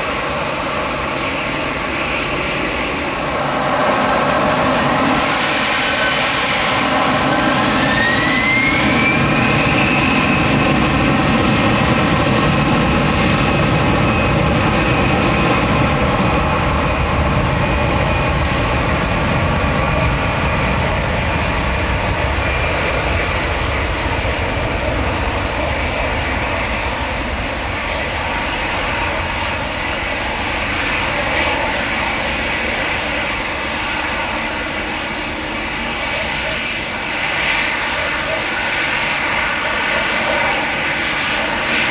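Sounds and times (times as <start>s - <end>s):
jet engines spooling up: 0.0s - 41.9s.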